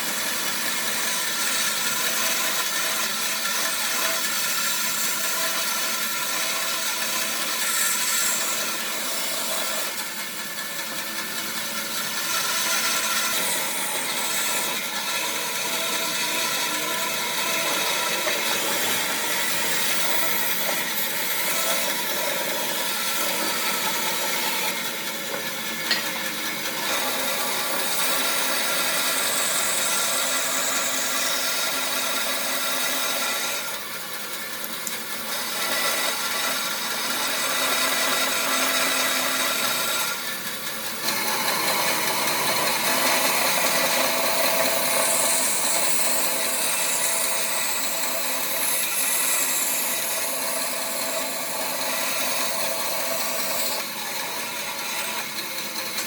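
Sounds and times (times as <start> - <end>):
power tool grinding wood: 0.0 - 56.0.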